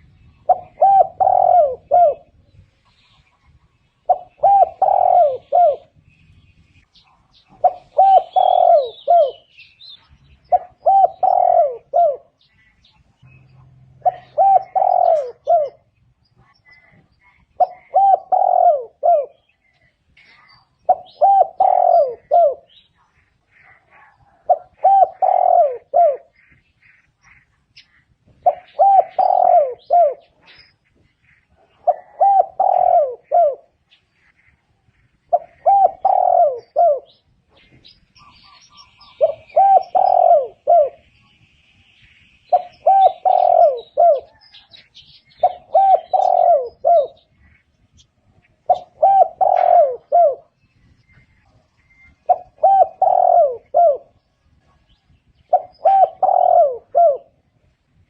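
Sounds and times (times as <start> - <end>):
dove cooing: 0.0 - 2.5, 3.2 - 6.0, 7.2 - 26.6, 27.3 - 30.7, 31.4 - 41.1, 42.5 - 58.0
small birds chirping: 0.0 - 58.0.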